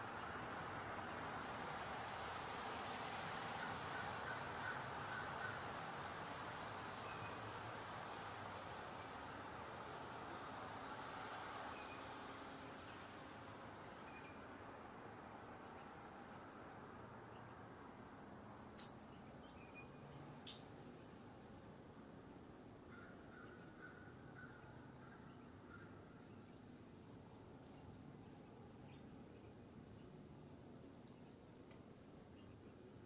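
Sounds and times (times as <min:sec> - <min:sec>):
soft steady hiss: 0:00.0 - 0:33.0.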